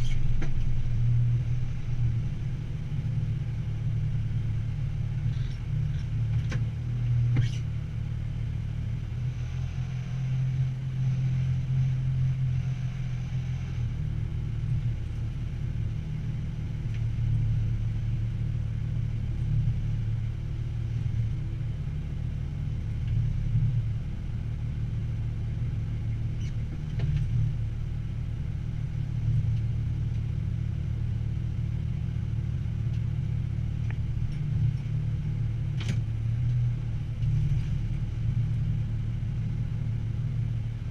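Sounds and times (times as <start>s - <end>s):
truck engine low rumble: 0.0s - 40.9s.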